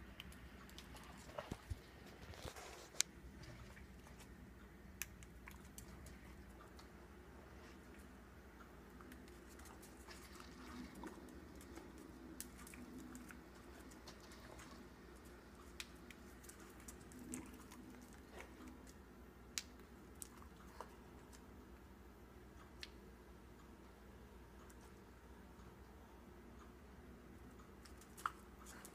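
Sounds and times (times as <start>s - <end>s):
low room hum: 0.0s - 28.9s.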